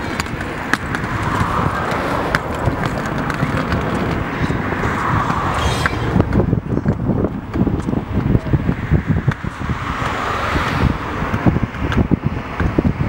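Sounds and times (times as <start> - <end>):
road traffic passing: 0.0 - 13.0
wind rumble on microphone: 0.0 - 13.0.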